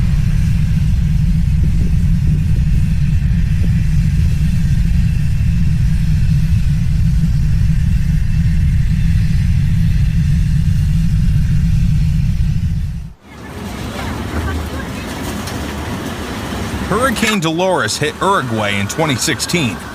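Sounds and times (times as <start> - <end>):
deep steady rumble: 0.0 - 19.9.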